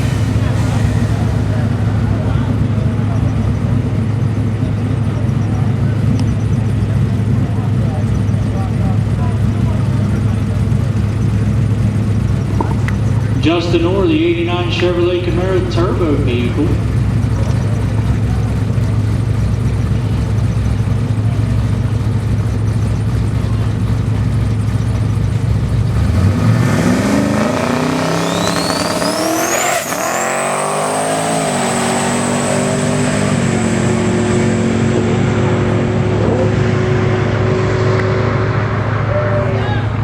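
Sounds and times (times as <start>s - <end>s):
drag car engine accelerating: 0.0s - 40.0s
high whine: 0.0s - 40.0s.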